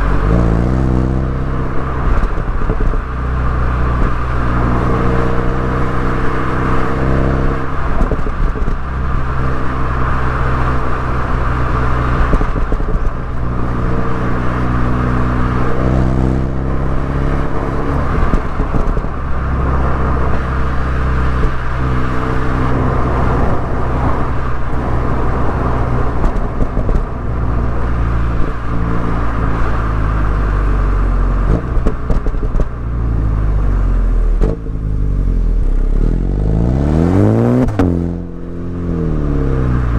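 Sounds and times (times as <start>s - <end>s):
car engine and exhaust: 0.0s - 39.9s
road and tyre noise: 0.0s - 39.9s.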